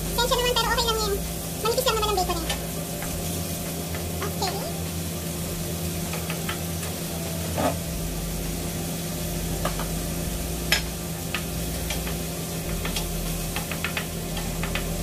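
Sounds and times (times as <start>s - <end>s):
bacon and onion sizzling in oil: 0.0s - 15.0s
low hum: 0.0s - 15.0s.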